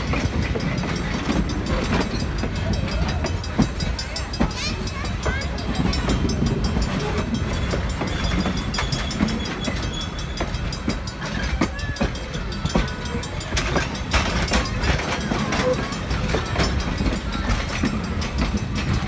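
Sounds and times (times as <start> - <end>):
train wheels rumbling on rail: 0.0 - 19.0
wheels clicking over rail joints: 0.0 - 19.0.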